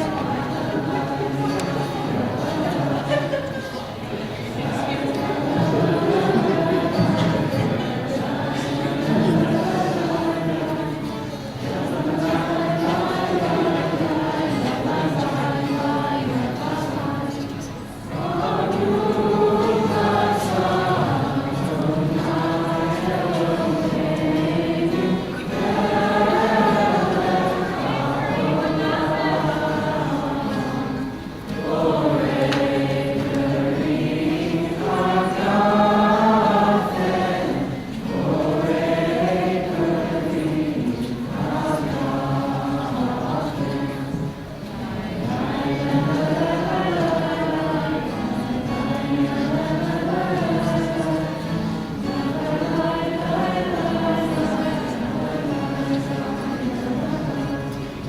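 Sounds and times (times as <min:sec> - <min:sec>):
group of voices singing: 0:00.0 - 0:58.0.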